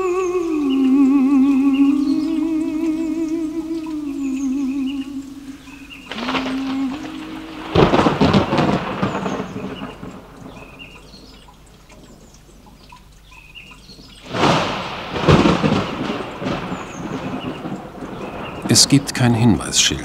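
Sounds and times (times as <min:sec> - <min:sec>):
thunder rumbling: 0:00.0 - 0:11.5, 0:14.2 - 0:20.0.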